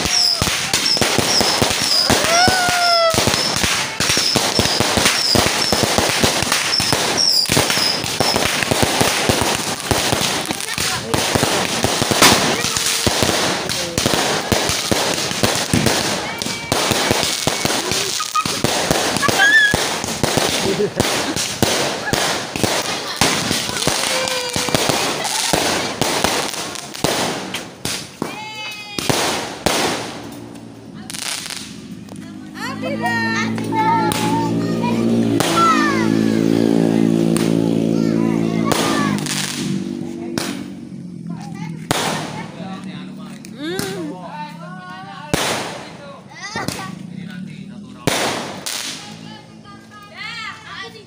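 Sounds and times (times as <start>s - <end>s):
crackling hiss: 0.0s - 32.7s, 38.6s - 51.0s
fireworks whistling: 0.0s - 42.8s, 45.0s - 47.2s, 47.9s - 51.0s
firecrackers banging: 0.0s - 51.0s.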